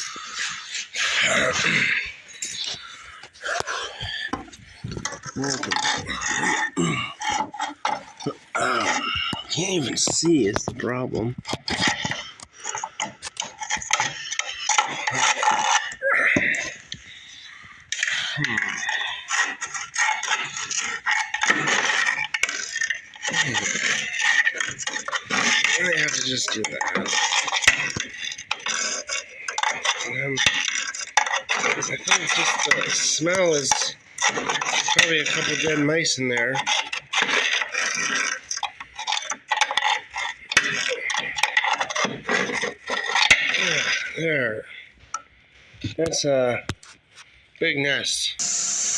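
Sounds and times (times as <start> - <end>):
screwdriver scraping against metal: 0.0 - 44.2.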